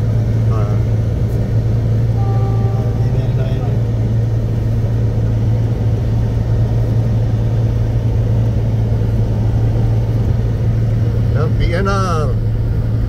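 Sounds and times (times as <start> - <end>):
car interior drone and rumble: 0.0 - 13.0.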